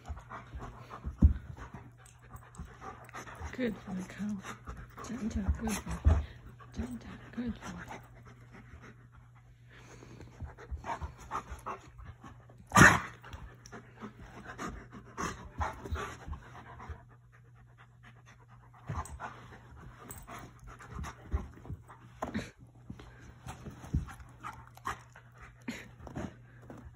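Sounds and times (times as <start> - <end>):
dogs panting and huffing: 0.0 - 26.9.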